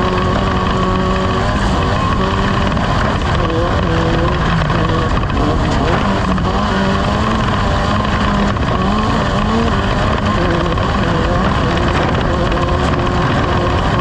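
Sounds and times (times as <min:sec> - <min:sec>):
race vehicle engine running: 0:00.0 - 0:14.0.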